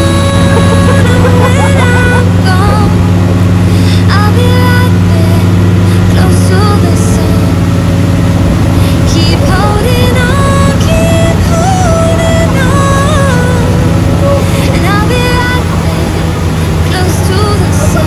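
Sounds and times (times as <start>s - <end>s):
people calling out: 0.0s - 5.9s, 8.9s - 18.0s
motorboat engine running: 0.0s - 18.0s.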